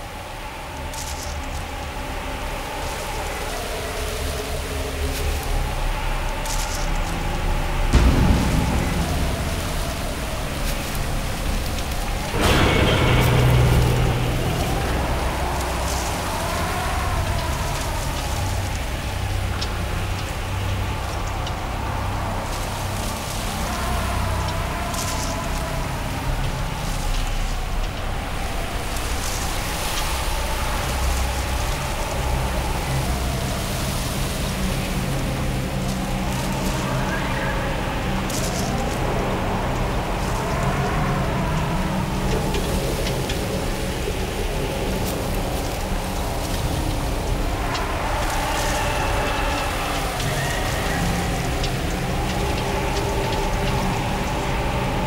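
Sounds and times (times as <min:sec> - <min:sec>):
dense rushing noise: 0:00.0 - 0:55.0
faint held drone: 0:00.0 - 0:55.0
wind-like hiss: 0:00.0 - 0:55.0
low rumble: 0:05.7 - 0:55.0.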